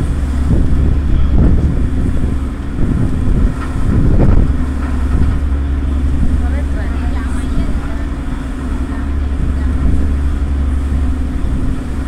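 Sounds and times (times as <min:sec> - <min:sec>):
ferry engines humming: 0:00.0 - 0:12.0
wind buffeting microphone: 0:00.0 - 0:12.0.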